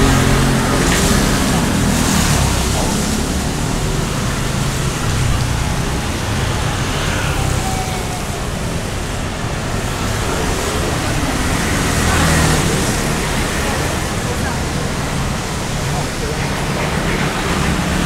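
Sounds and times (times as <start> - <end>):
faint voices: 0.0 - 18.0
traffic rumble: 0.0 - 18.0.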